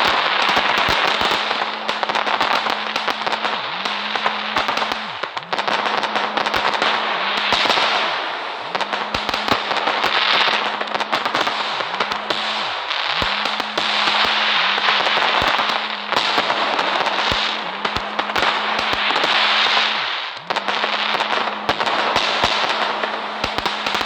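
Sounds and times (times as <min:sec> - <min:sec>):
fireworks crackling and popping: 0:00.0 - 0:24.0
fireworks spraying hiss: 0:00.0 - 0:24.0.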